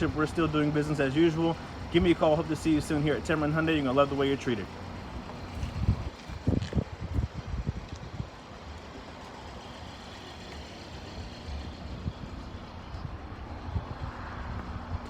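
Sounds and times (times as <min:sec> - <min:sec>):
engine and traffic hum: 0:00.0 - 0:15.0.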